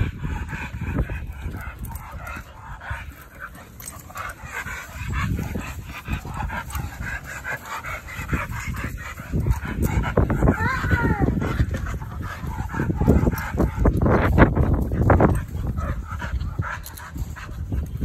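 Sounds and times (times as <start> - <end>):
dogs moving and vocalizing: 0.0 - 18.0
low thumps and rumbles: 0.0 - 18.0.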